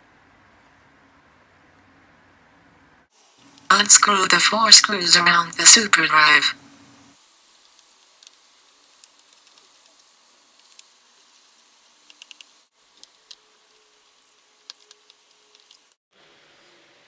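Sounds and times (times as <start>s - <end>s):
soft hiss: 3.2s - 17.0s.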